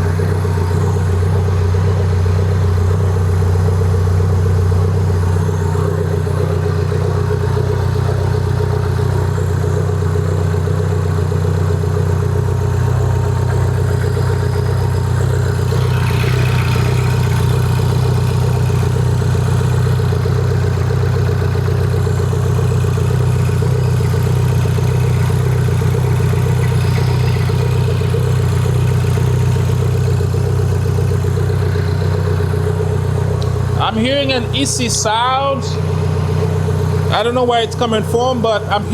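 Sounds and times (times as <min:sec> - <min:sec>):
car engine running steadily: 0:00.0 - 0:38.9.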